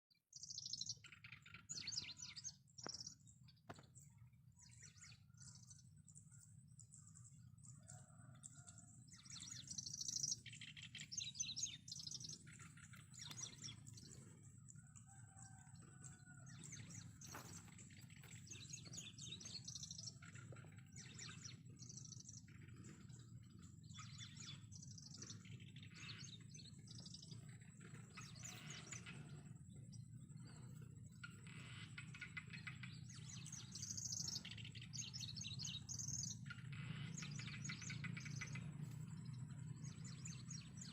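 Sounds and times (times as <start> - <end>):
wild birds chirping: 0.3 - 40.9
low background rumble: 0.6 - 40.9.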